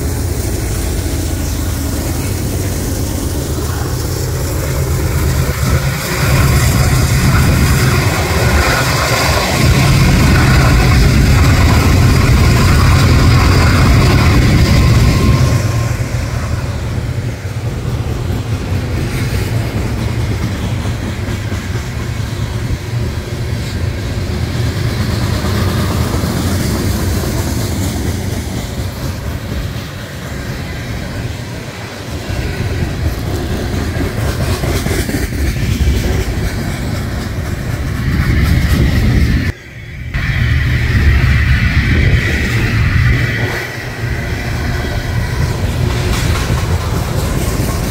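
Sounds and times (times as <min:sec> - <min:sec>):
freight train wheels clacking: 0:00.0 - 0:47.9.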